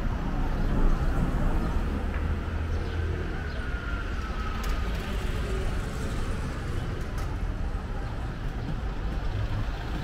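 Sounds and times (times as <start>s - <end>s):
low rumble of road traffic: 0.0s - 10.0s.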